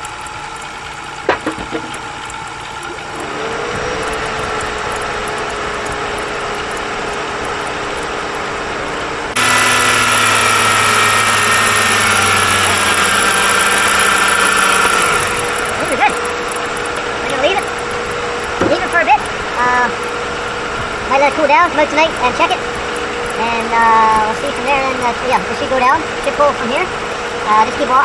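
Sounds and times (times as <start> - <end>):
car engine running: 0.0 - 28.0
steady whining hum: 0.0 - 28.0.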